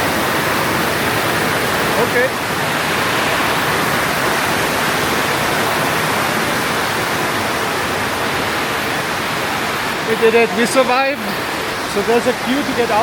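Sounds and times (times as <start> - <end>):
torrential rain: 0.0 - 13.0.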